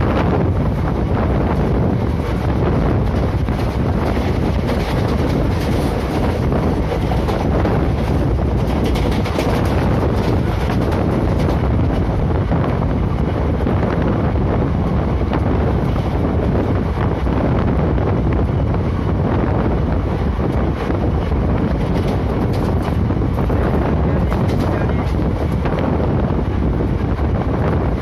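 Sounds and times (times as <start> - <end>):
train wheels rumbling on rails: 0.0 - 28.0
wind buffeting microphone: 0.0 - 28.0.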